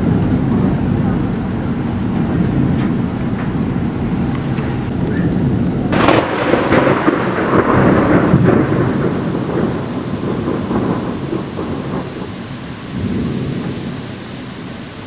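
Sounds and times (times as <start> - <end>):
rain hiss: 0.0 - 15.0
thunder clap and rumble: 0.0 - 15.0.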